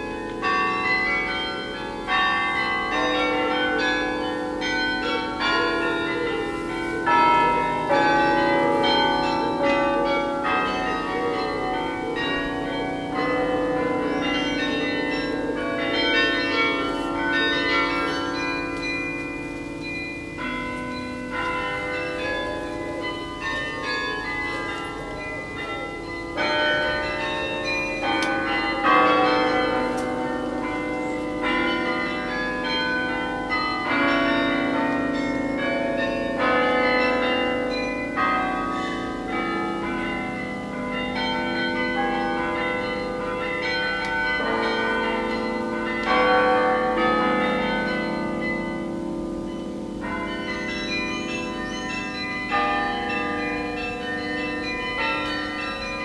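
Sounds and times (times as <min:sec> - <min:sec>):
carillon bells playing a hymn: 0:00.0 - 0:56.0.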